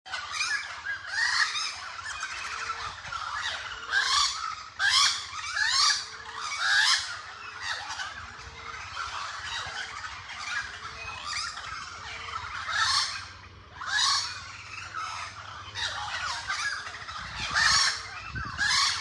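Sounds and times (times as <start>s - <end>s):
crows cawing: 0.1s - 19.0s.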